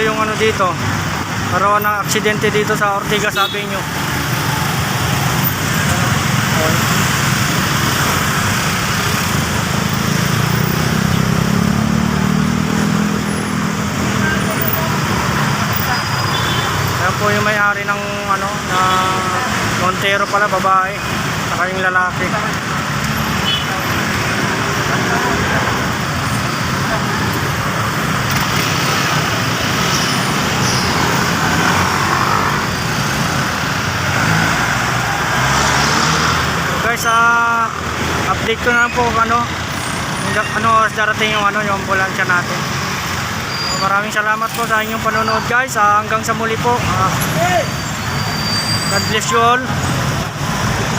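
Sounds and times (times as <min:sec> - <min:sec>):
heavy road traffic: 0:00.0 - 0:50.9
vehicle engines running: 0:00.0 - 0:50.9.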